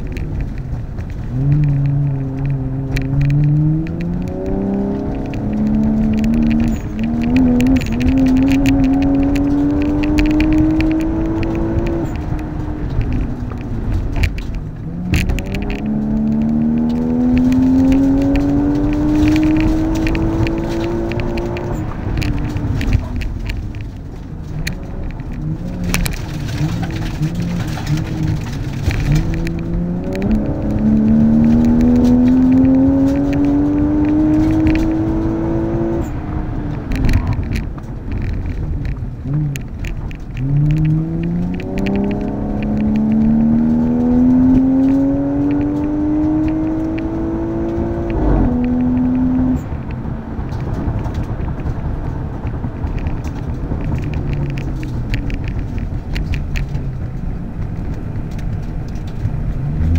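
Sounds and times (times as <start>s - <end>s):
car engine revving under full throttle: 0.0s - 59.9s
road and cabin noise: 0.0s - 59.9s.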